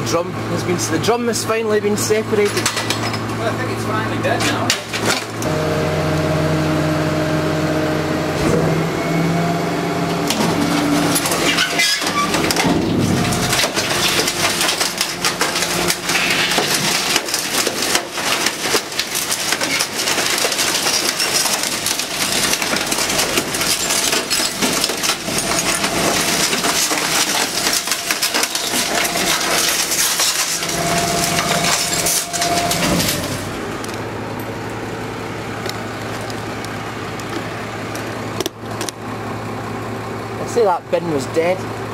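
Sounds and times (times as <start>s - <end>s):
truck engine running: 0.0s - 41.9s
compactor crushing debris: 0.1s - 41.9s
hydraulic whine: 1.9s - 40.4s.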